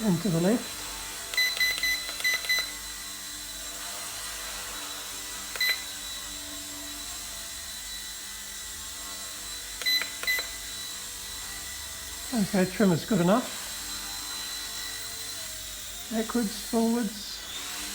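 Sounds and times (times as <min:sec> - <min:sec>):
toy helicopter hovering hum: 0:00.0 - 0:17.9.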